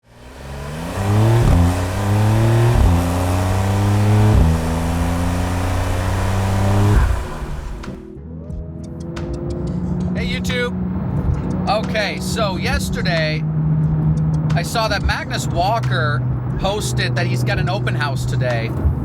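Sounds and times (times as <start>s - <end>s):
car engine accelerating: 0.0s - 8.1s, 8.9s - 16.6s.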